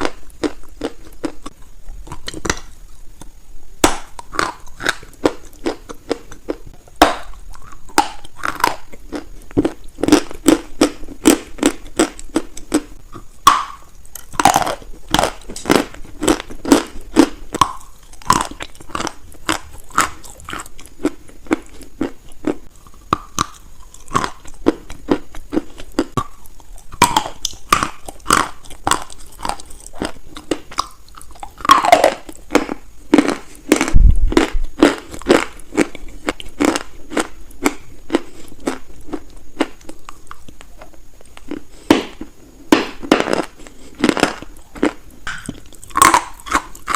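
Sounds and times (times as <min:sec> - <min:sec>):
chewing crunchy baked clay: 0:00.0 - 0:46.9.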